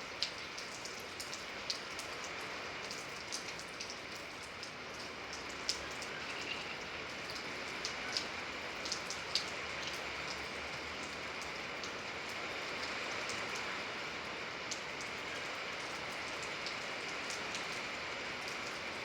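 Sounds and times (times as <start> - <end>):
sharp raindrops striking: 0.0 - 19.0
steady rain hiss: 0.0 - 19.0.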